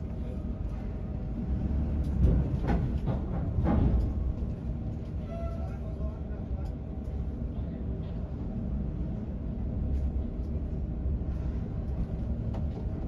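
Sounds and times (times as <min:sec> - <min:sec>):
heavy diesel engine rumbling: 0:00.0 - 0:13.0.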